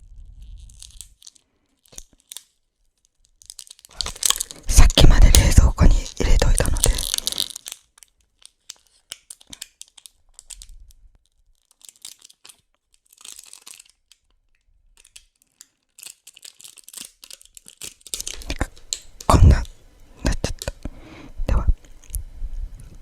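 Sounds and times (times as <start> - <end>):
quiet tearing and crinkling: 0.1 - 21.0, 21.6 - 23.0.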